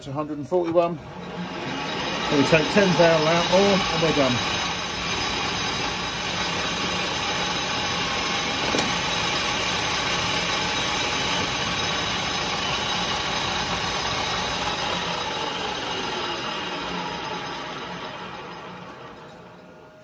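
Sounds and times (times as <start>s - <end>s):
metal lathe whirring: 1.0s - 20.0s.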